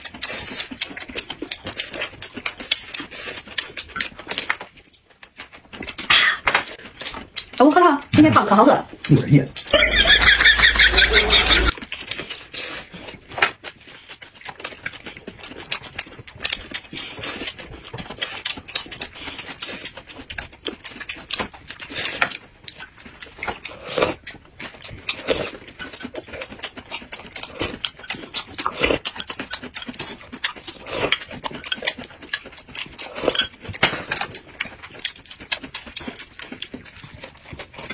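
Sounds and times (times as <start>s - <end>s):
chewing with lip smacks: 0.0s - 7.6s, 11.4s - 37.9s.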